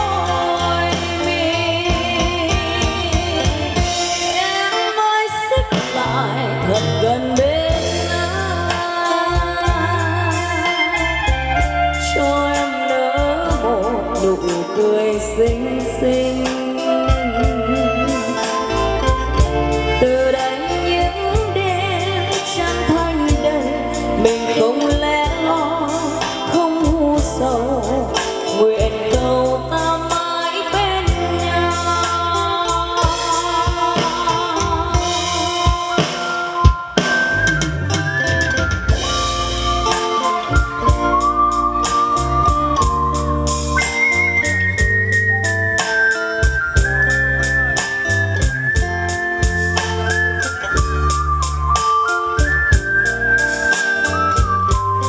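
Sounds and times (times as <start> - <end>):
live band playing pop ballad: 0.0 - 55.0.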